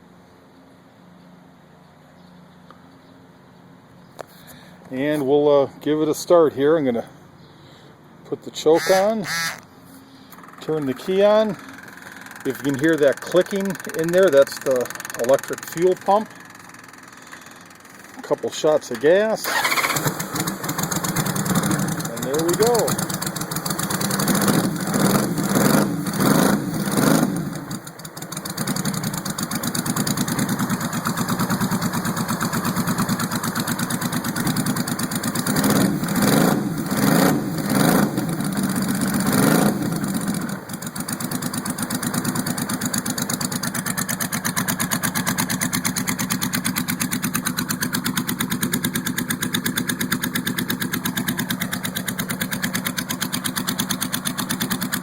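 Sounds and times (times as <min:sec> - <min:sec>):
motorcycle engine revving and idling: 0:08.6 - 0:55.0.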